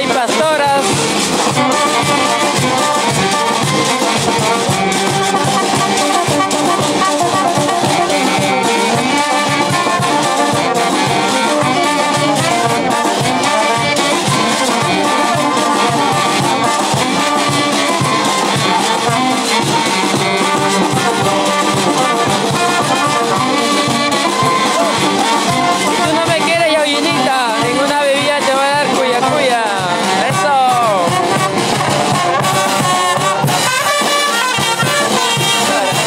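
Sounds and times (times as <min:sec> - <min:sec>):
brass band playing: 0:00.0 - 0:36.0.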